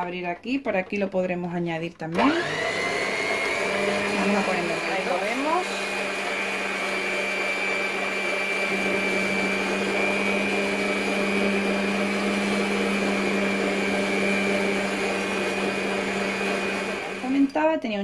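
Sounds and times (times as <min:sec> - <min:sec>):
stand mixer whisking batter: 0:02.2 - 0:17.7.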